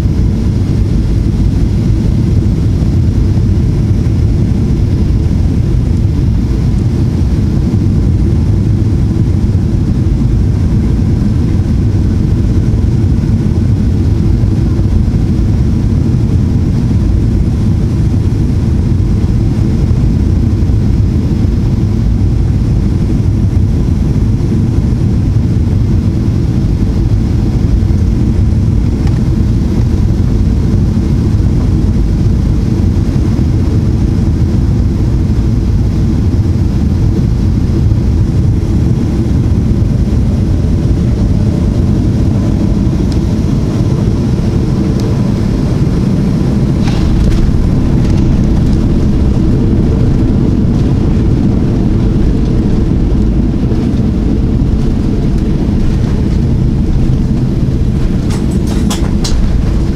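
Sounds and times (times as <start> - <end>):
airflow over airframe: 0.0 - 59.9
airplane cabin engine rumble: 0.0 - 59.9.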